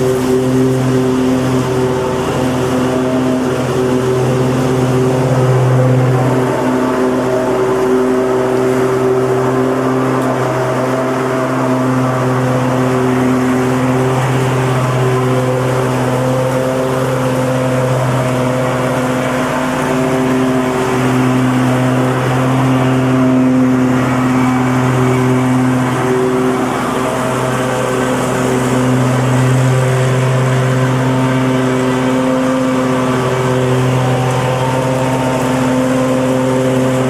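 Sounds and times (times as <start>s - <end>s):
lawnmower engine running: 0.0s - 37.0s.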